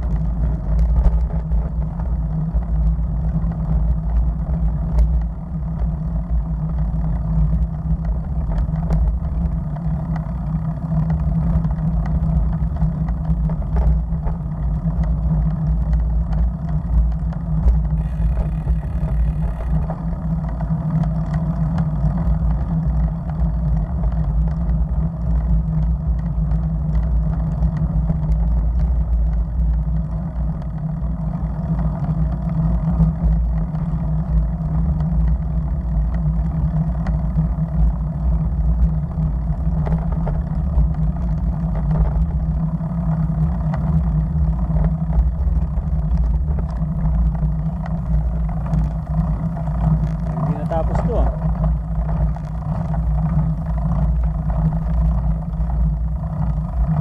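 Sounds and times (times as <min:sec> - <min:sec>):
road vibration rumble: 0:00.0 - 0:57.0.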